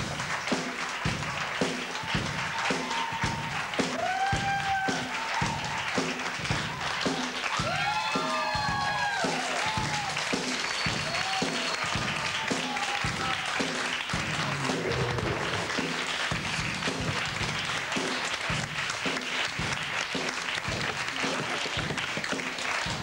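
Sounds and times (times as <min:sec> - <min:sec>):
audience applauding: 0:00.0 - 0:23.0
theme music with steady beat: 0:00.0 - 0:23.0.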